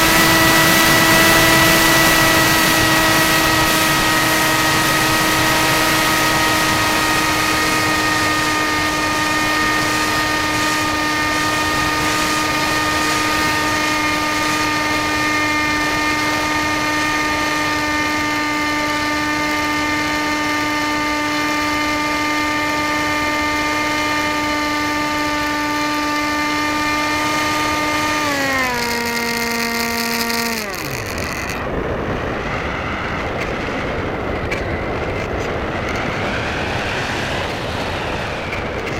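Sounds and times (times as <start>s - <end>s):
model plane motor whining: 0.0s - 38.9s.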